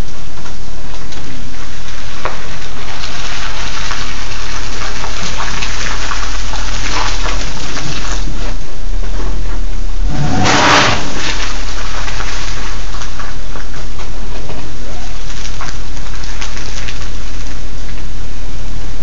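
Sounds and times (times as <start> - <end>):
small scattered crackles: 0.0 - 18.2
rain hissing: 1.6 - 18.0.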